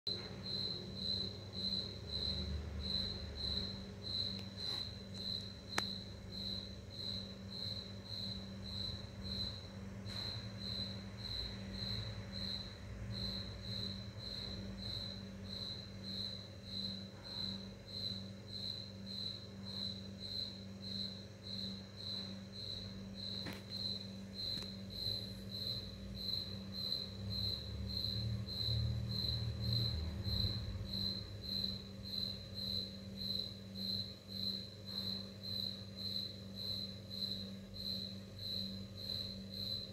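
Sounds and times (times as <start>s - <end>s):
cricket chirping: 0.1s - 39.9s
low electrical hum: 0.1s - 39.9s.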